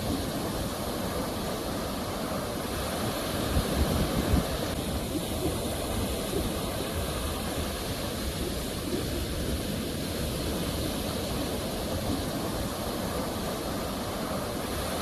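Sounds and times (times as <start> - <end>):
sea waves rushing: 0.0 - 15.0.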